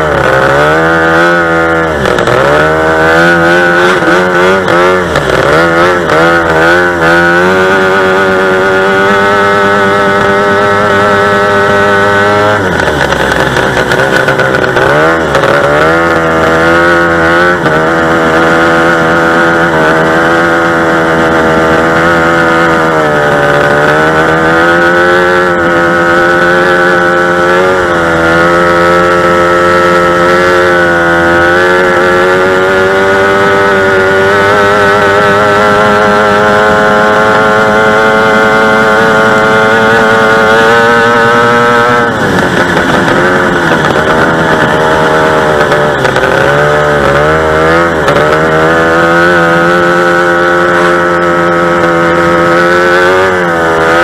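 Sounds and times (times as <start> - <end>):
two-stroke engine revving: 0.0 - 54.0.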